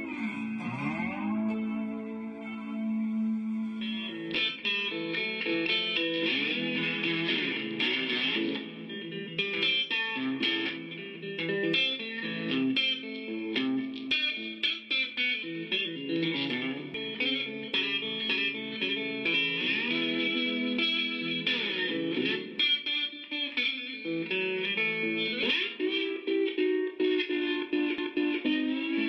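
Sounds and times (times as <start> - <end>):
quick plucked guitar music: 0.0 - 29.0.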